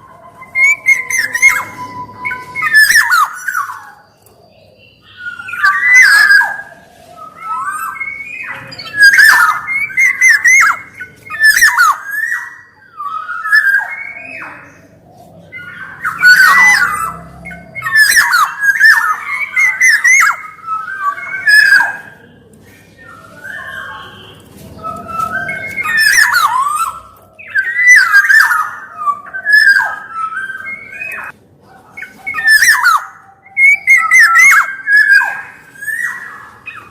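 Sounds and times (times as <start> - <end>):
bird singing whistled notes: 0.0 - 31.3, 32.0 - 36.9.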